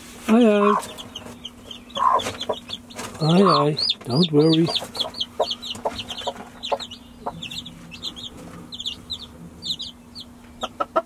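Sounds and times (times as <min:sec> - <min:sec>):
chicks peeping: 0:00.3 - 0:11.0
hen clucking: 0:00.4 - 0:11.0.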